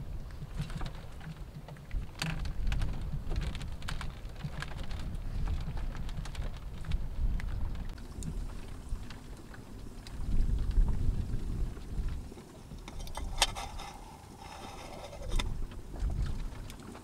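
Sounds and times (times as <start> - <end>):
light clicks and crackles: 0.0 - 17.0
wind buffeting microphone: 0.0 - 17.0.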